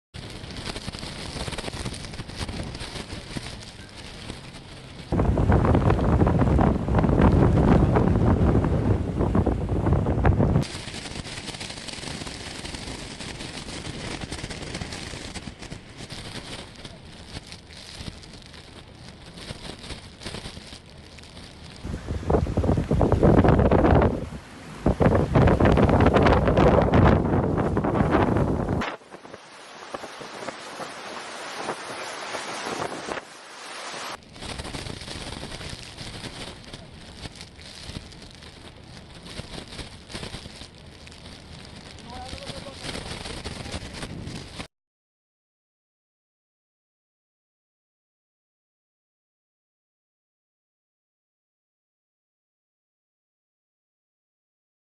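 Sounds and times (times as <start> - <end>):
wind and rain rushing: 0.2 - 44.7
wind gusts buffeting microphone: 0.2 - 44.7.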